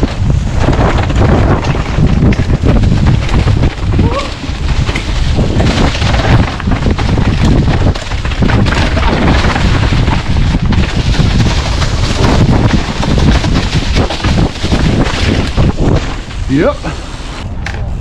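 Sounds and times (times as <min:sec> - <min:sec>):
gusting wind buffeting microphone: 0:00.0 - 0:18.0.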